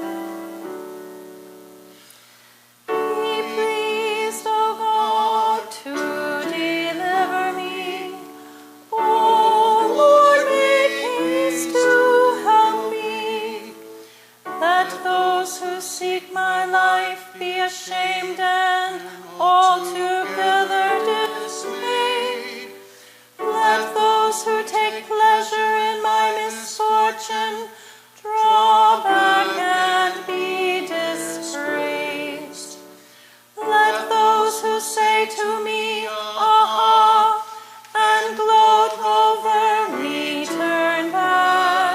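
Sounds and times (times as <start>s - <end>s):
man and woman singing a hymn: 0.0s - 41.9s.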